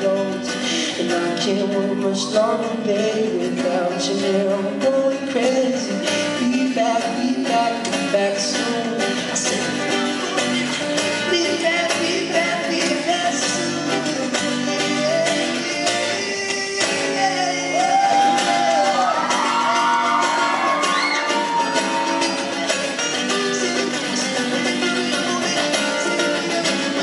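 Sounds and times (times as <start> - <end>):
man singing: 0.0 - 27.0
strummed acoustic guitar: 0.0 - 27.0.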